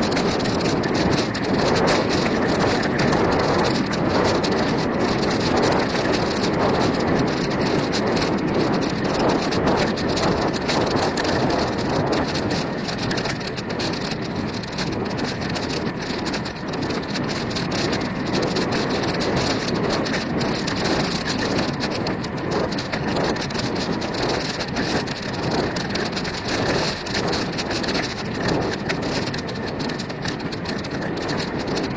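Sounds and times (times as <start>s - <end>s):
bicycle rattles and knocks: 0.0s - 31.9s
bicycle wind rushing: 0.0s - 31.9s.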